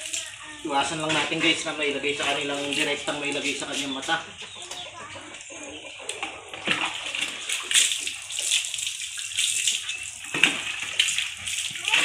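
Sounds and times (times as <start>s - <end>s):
water splashing on goat and concrete: 0.0s - 4.2s, 6.1s - 12.0s.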